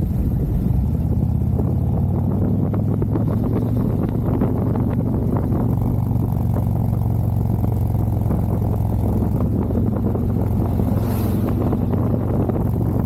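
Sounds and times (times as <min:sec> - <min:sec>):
motorcycle engine rumbling: 0:00.0 - 0:13.0
wind noise: 0:00.0 - 0:13.0.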